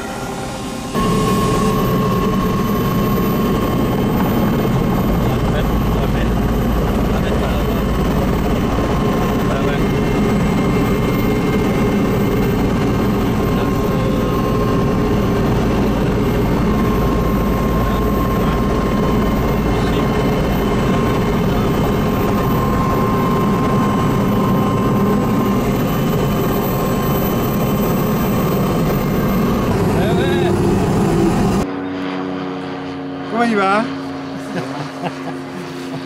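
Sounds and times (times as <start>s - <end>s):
engine running steadily: 0.0s - 36.0s
faint whine: 0.0s - 36.0s.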